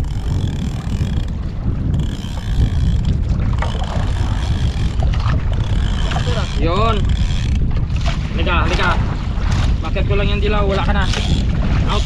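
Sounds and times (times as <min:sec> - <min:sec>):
wind rumble buffeting microphone: 0:00.0 - 0:12.0.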